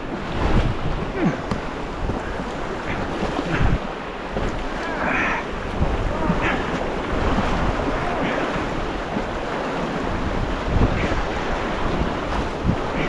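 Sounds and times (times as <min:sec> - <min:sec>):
river current rushing: 0:00.0 - 0:13.0
water splashes: 0:00.0 - 0:13.0
wind buffeting microphone: 0:00.0 - 0:13.0.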